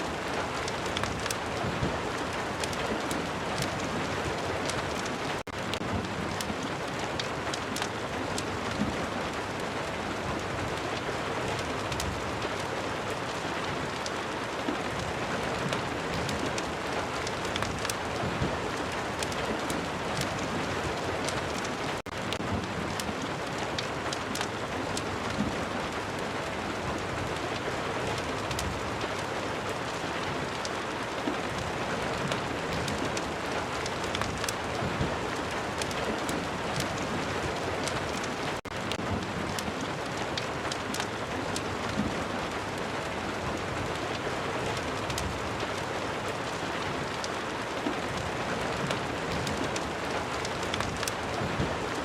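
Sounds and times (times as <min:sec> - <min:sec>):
steady rain: 0:00.0 - 0:52.0
fireplace crackling ticks: 0:00.1 - 0:09.0, 0:10.9 - 0:12.7, 0:15.6 - 0:25.6, 0:27.4 - 0:30.0, 0:30.6 - 0:42.6, 0:43.9 - 0:47.5, 0:48.1 - 0:52.0.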